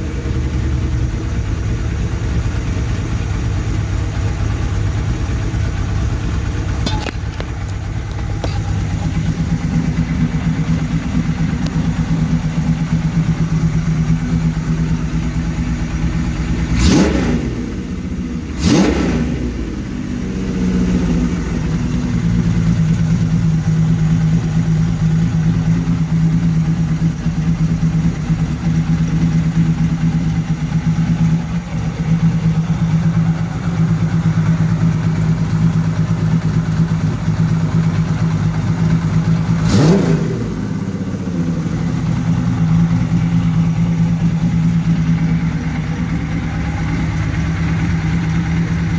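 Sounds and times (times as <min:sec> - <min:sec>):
engine throttle blips: 0:00.0 - 0:48.9
motorcycle engine idling: 0:00.0 - 0:48.9.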